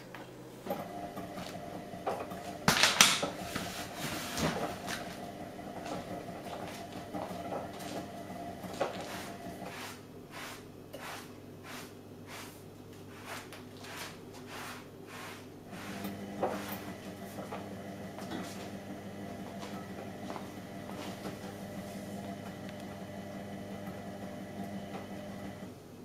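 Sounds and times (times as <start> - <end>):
washing machine motor hum: 0.0 - 11.8, 13.2 - 26.0.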